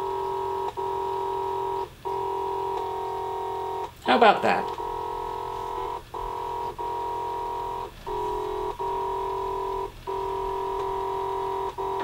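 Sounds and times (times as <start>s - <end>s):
steady chord of electronic tones: 0.0s - 12.0s.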